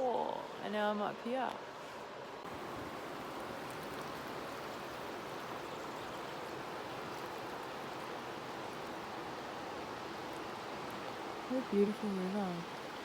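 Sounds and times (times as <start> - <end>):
river rushing: 2.5 - 13.0.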